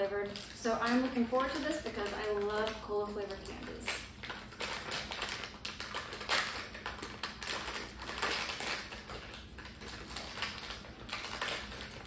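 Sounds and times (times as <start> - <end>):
candy wrapper crinkling: 0.0 - 12.0.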